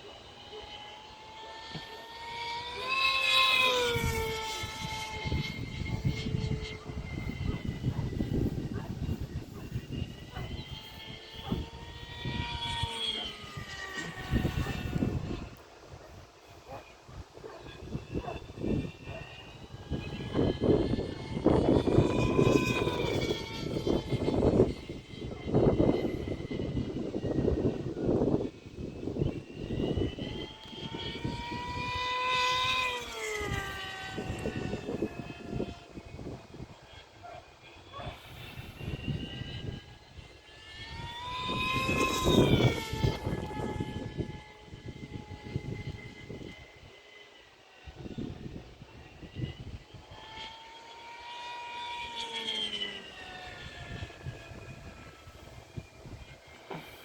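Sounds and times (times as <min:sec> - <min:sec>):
model aircraft motor whining: 0:00.0 - 0:57.0
wind buffeting microphone: 0:00.0 - 0:57.0.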